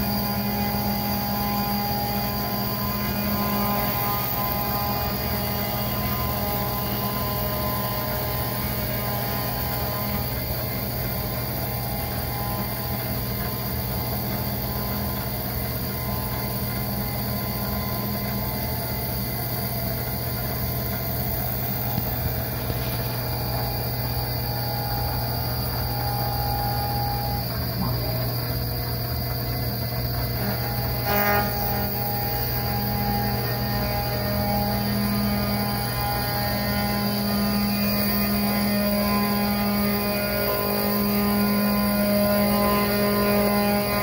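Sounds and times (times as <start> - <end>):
milling machine humming and whining: 0.0 - 44.0.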